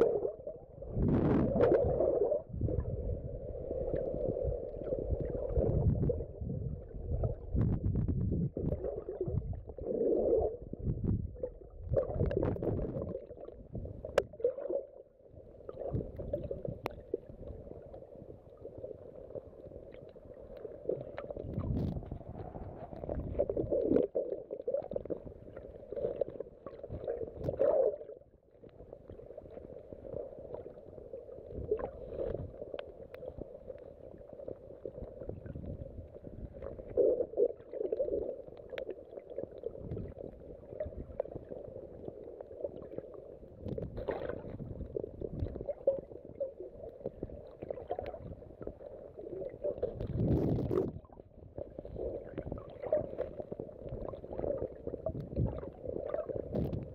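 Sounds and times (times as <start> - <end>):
muffled underwater sloshing: 0.0 - 56.9.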